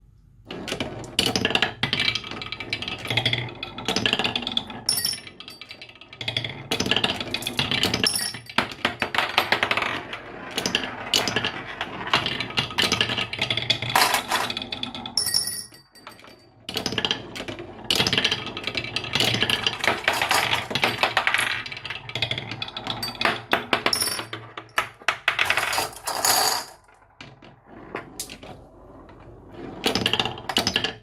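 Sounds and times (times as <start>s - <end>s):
marbles rolling down wooden tracks: 0.5s - 31.0s.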